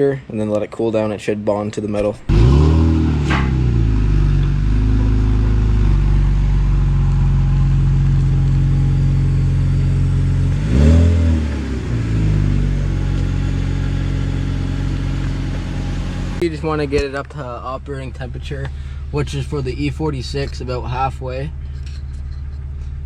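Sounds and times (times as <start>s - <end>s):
car engine idling and revving: 2.0s - 23.0s.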